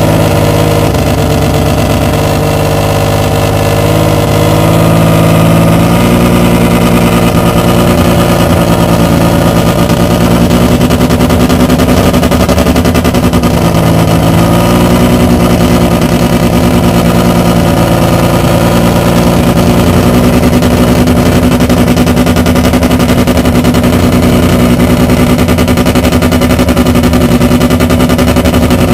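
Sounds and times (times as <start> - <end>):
racing engine running loud: 0.0 - 28.9.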